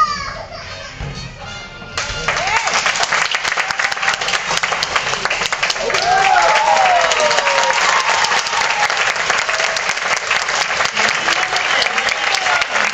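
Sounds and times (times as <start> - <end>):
people cheering: 2.0 - 12.9
audience applauding: 2.2 - 12.9.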